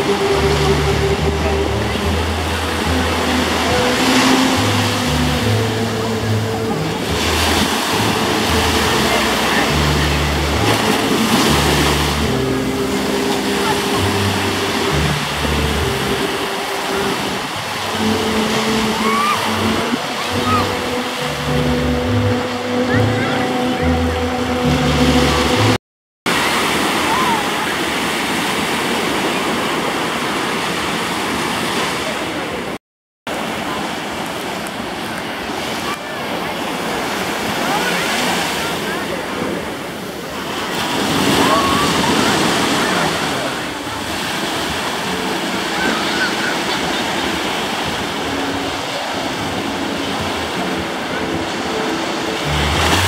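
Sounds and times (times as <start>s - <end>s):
small waves breaking on sand: 2.0s - 21.9s, 26.3s - 53.0s.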